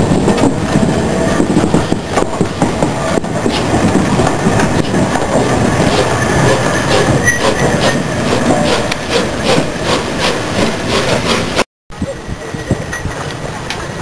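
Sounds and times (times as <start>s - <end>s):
clacks over rail joints: 0.0s - 11.6s
train wheels rumbling on rails: 0.0s - 14.0s.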